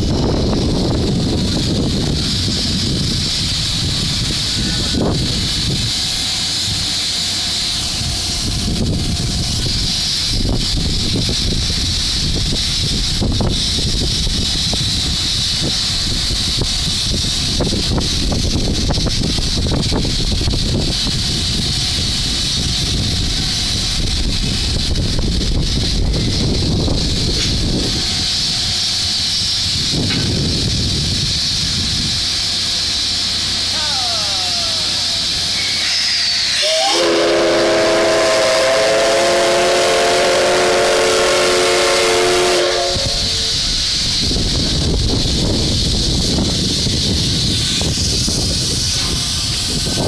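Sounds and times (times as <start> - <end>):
steam hissing: 0.0 - 50.0.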